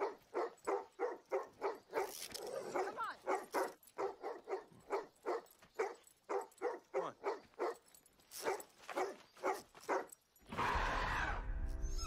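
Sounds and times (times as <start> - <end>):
dog barking: 0.0 - 10.1.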